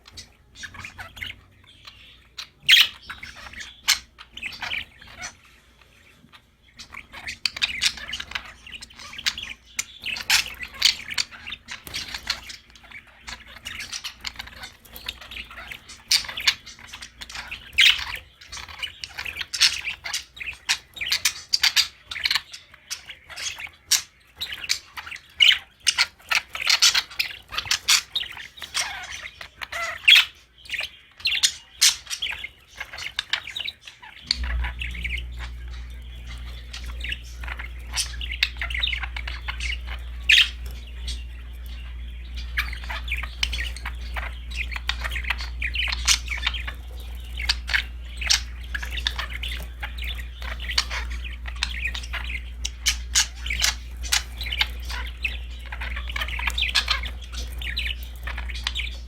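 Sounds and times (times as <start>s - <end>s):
budgies chirping and squawking: 0.0s - 59.0s.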